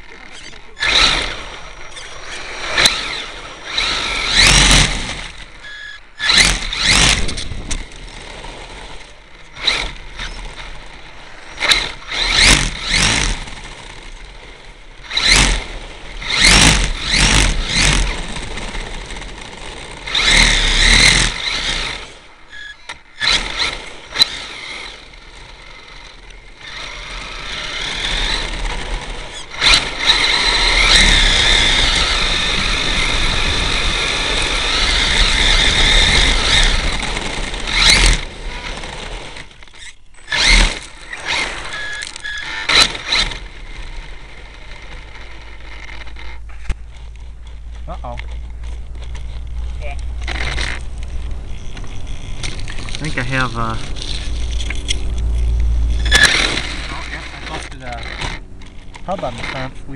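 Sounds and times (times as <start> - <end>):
electric toy truck motor bursts: 0.2 - 46.8, 49.1 - 59.7.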